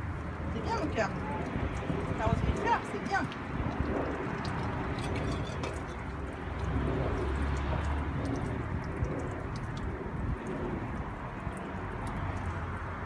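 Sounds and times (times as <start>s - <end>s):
water spraying from a hose: 0.0s - 13.0s.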